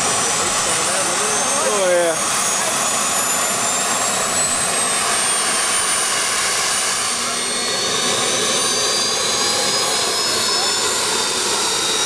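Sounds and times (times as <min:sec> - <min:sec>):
jet engines rushing and whining: 0:00.0 - 0:12.0.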